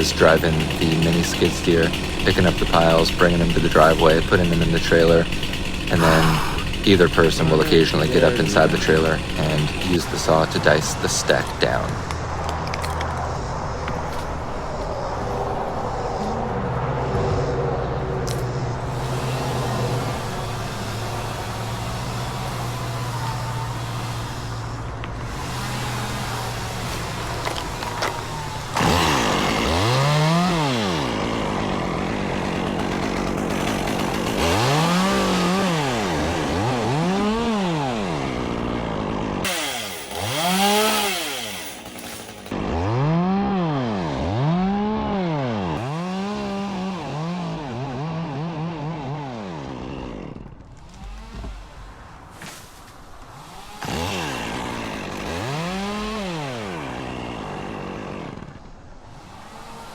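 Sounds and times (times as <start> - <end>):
chainsaw revving cutting wood: 0.0 - 13.2, 18.2 - 51.9, 53.4 - 59.9
engine running: 0.0 - 51.6.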